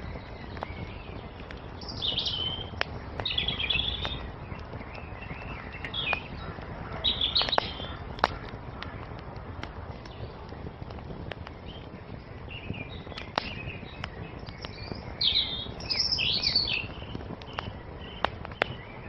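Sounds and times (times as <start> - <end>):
songbirds chirping: 0.0 - 19.0
wood fire crackling: 0.0 - 19.0.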